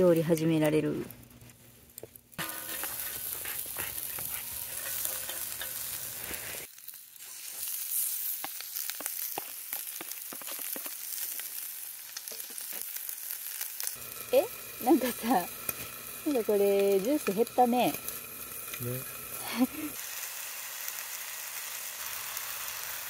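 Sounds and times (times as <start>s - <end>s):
chicken sizzling in grill pan: 2.3s - 23.0s.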